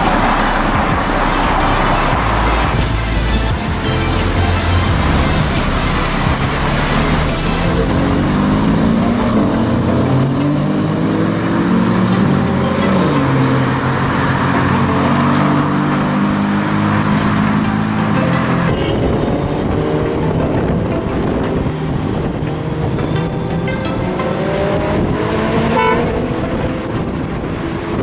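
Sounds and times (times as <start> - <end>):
car engine revving: 0.0 - 28.0
street traffic: 0.0 - 28.0.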